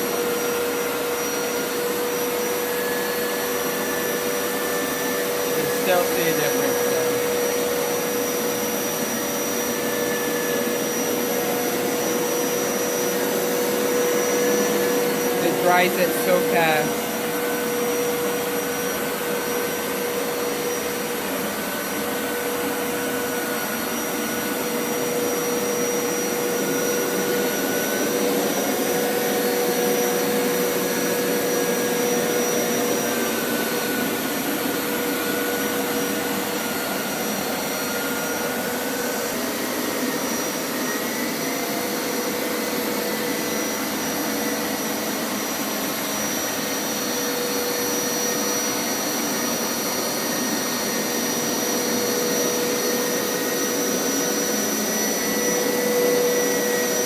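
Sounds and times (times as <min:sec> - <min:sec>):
carpet washer motor whine: 0:00.0 - 0:57.0.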